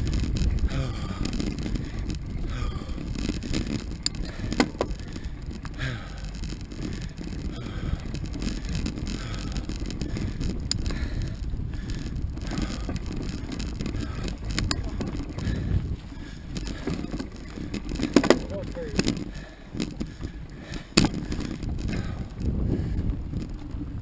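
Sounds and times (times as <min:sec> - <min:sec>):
bike rattling: 0:00.0 - 0:24.0
tyres rumbling on dirt trail: 0:00.0 - 0:24.0.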